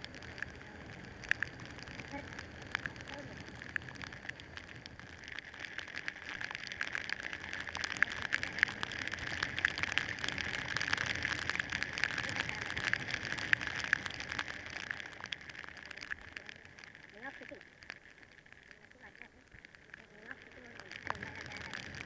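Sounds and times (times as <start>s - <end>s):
raindrops ticking on camera: 0.0s - 22.0s
steady rain hiss: 0.0s - 22.0s.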